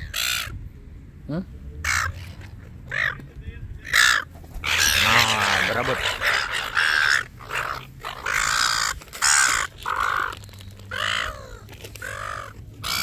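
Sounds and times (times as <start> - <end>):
birds giving harsh calls: 0.0 - 0.6, 1.8 - 13.0.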